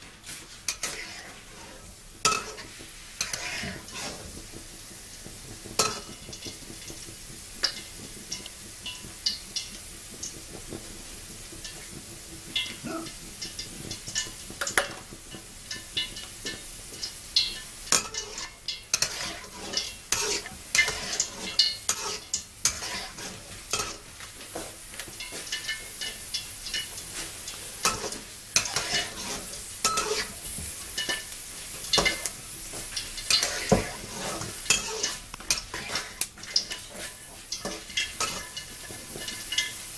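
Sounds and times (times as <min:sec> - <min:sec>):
metal spatula scraping a wok: 0:00.0 - 0:39.9
peanuts sizzling in oil: 0:00.0 - 0:39.9.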